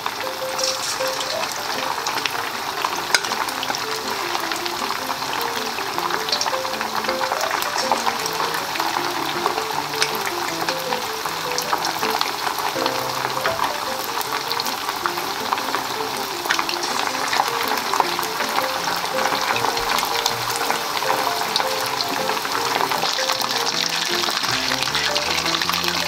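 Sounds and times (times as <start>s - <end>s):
food deep-frying in oil: 0.0s - 26.0s
soft background music: 0.0s - 26.0s.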